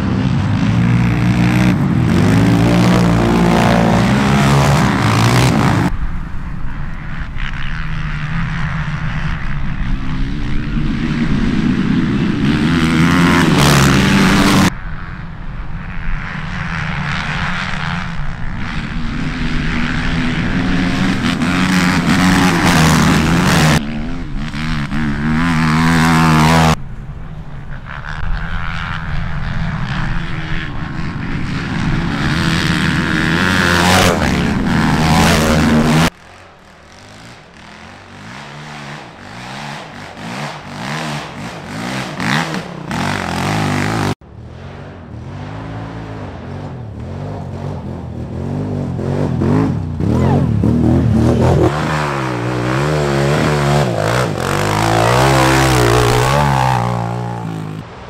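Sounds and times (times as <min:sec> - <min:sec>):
quad engines revving past: 0:00.0 - 0:58.0.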